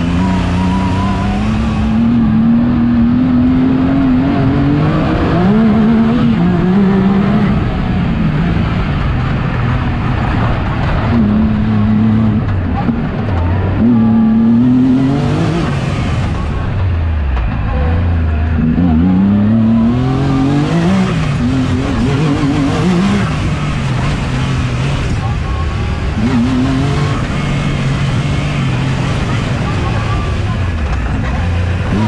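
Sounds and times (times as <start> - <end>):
engine revving under load: 0.0 - 32.0.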